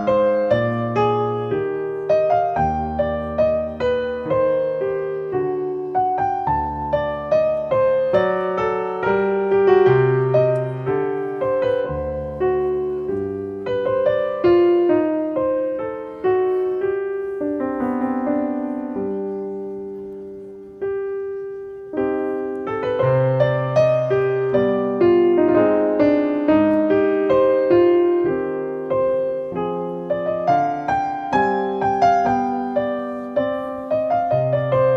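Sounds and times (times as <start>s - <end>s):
slow piano melody: 0.0s - 34.9s.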